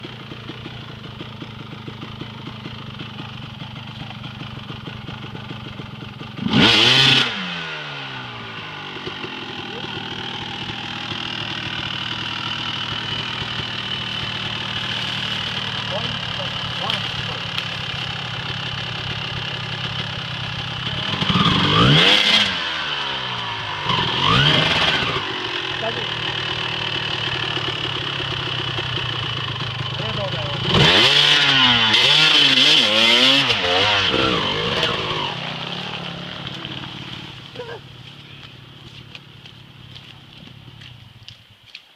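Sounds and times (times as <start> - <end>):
vehicle engine idling and revving: 0.0 - 41.6.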